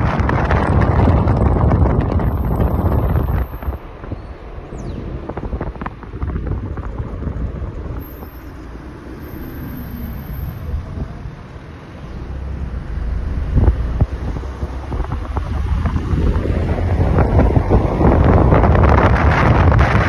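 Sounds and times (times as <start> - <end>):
tyres and engine rumble: 0.0 - 20.0
wind buffeting microphone: 0.0 - 20.0.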